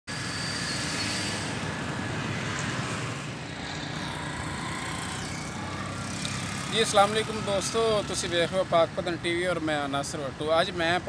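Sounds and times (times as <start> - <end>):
road traffic rumble: 0.1 - 11.0.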